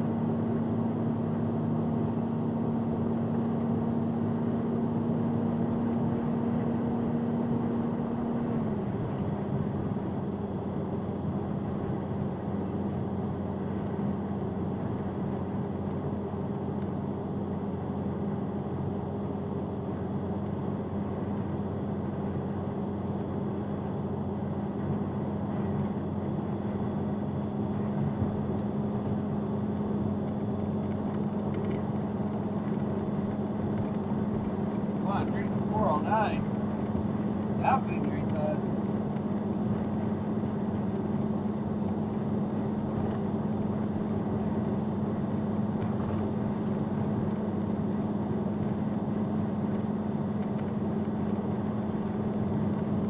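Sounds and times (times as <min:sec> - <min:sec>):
truck engine hum: 0:00.0 - 0:53.0
tyres and wind rushing: 0:00.0 - 0:53.0.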